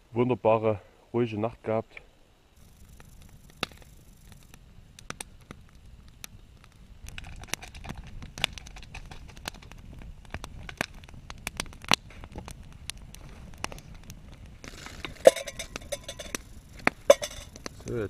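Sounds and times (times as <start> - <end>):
campfire crackling and popping: 1.9 - 18.0.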